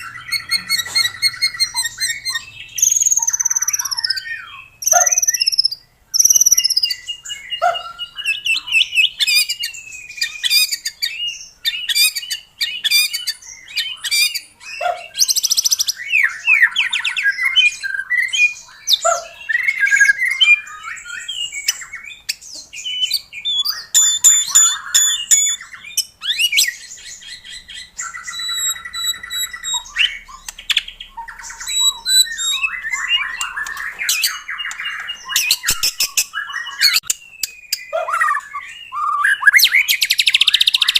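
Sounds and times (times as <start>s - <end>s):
songbird singing varied phrases: 0.0s - 40.9s.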